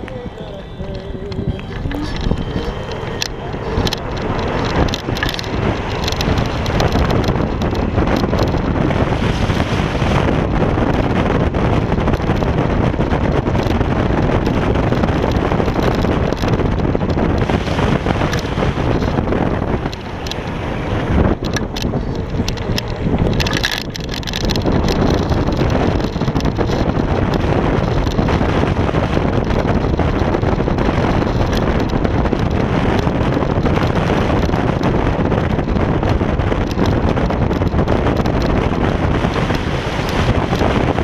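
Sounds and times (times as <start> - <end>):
tyres rumbling on asphalt: 0.0 - 41.0
wind rushing over microphone: 0.0 - 41.0.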